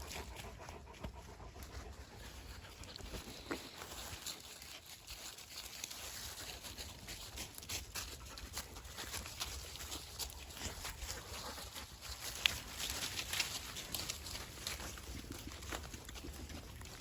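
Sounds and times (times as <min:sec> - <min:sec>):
dog paws pattering: 0:00.0 - 0:17.0.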